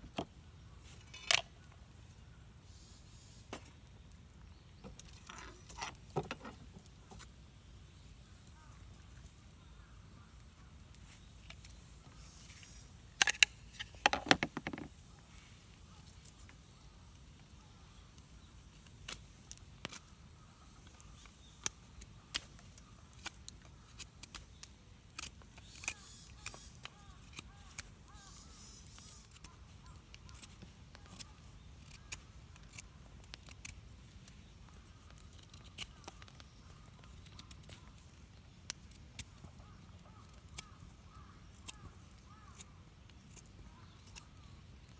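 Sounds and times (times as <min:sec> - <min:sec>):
campfire crackling and popping: 0:03.2 - 0:44.9.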